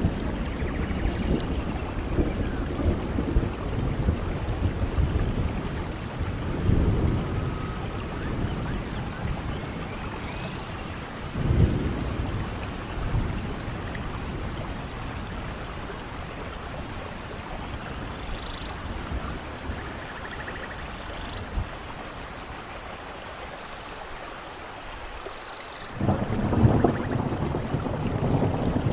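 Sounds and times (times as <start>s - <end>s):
rolling thunder: 0.0s - 20.7s, 25.9s - 28.9s
steady rain: 0.0s - 28.9s.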